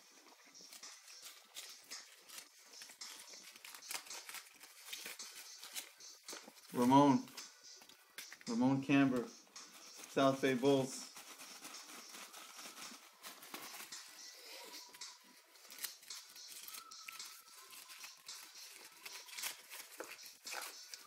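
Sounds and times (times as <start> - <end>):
paper crinkling being unfolded: 0.6 - 7.2, 9.7 - 21.0.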